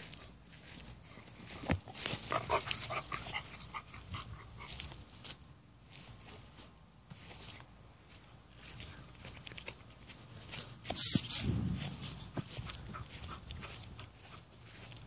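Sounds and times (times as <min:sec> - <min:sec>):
footsteps on grass: 0:00.0 - 0:15.0.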